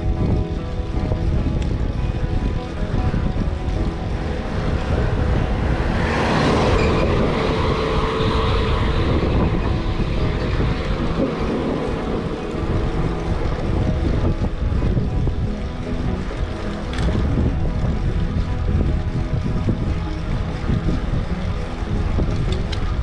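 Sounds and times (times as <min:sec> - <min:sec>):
low road rumbling: 0:00.0 - 0:23.0
wind buffeting microphone: 0:00.0 - 0:23.0.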